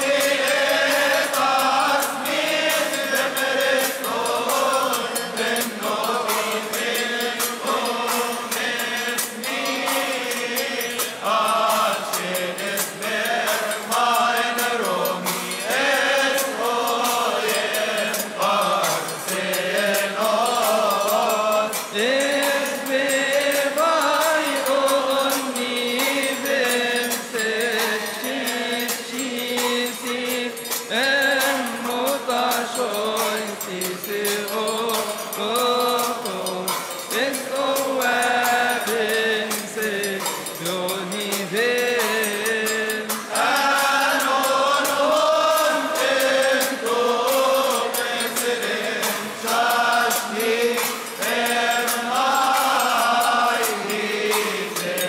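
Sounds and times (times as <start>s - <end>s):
many voices chanting a hymn: 0.0s - 55.0s.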